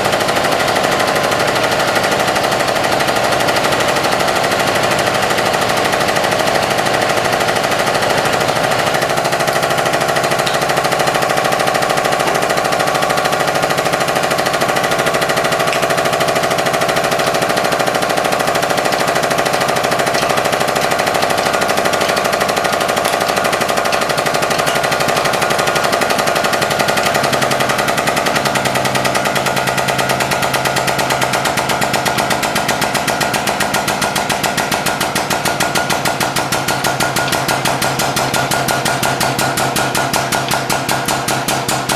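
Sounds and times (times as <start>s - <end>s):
hydraulic pump pulsing rattle: 0.0s - 41.9s.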